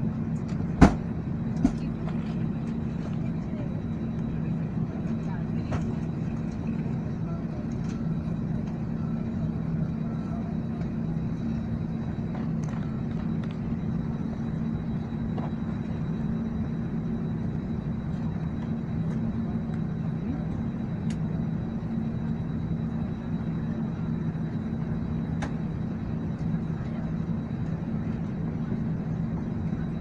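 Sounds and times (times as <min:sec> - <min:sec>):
airliner engines droning: 0:00.0 - 0:30.0.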